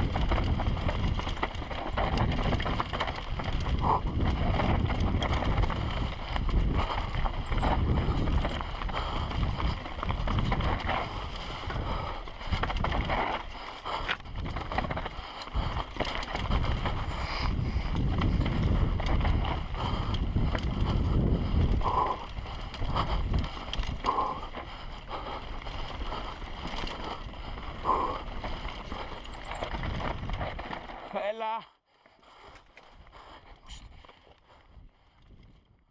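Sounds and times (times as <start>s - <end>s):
wind buffeting microphone: 0.0s - 30.9s, 33.0s - 35.8s
bike tyres and frame rattling: 0.0s - 31.5s.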